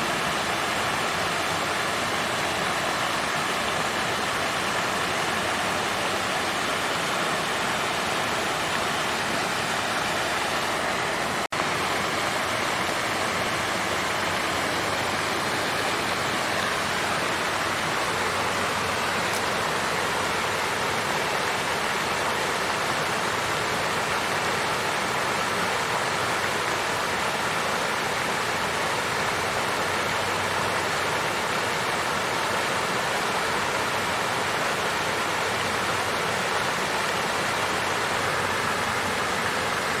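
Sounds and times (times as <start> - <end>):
water fountain splashing: 0.0 - 40.0.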